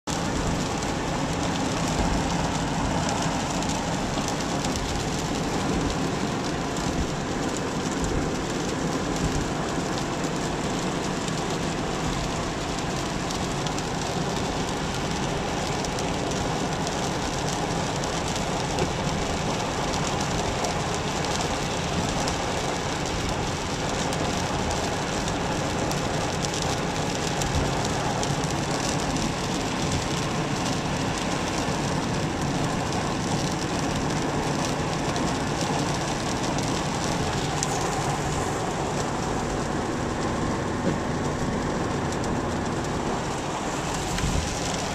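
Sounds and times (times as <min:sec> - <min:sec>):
car engine: 0:00.0 - 0:44.9
rain on car: 0:00.0 - 0:44.9
tyres on wet pavement: 0:00.0 - 0:44.9.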